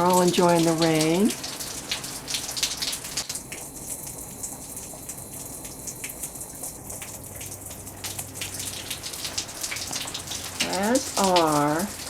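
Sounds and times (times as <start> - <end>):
rain falling: 0.0 - 12.0
raindrops tapping: 0.0 - 12.0.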